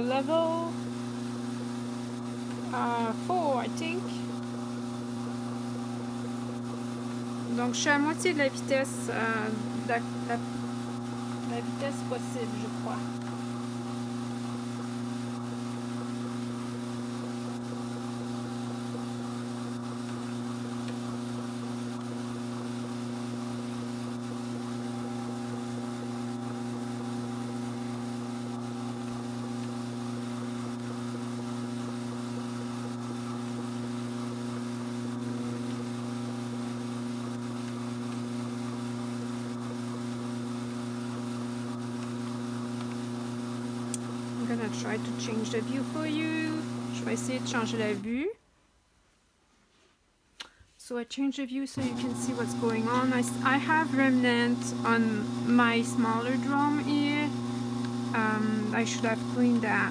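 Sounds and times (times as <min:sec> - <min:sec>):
electric drum carder humming: 0:00.0 - 0:48.2, 0:51.8 - 0:59.9.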